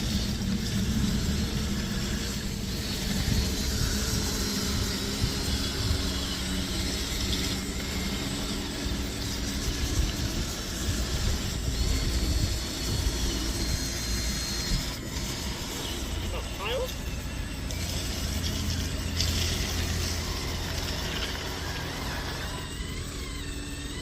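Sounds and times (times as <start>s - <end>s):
toy electric motors whining: 0.0s - 24.0s.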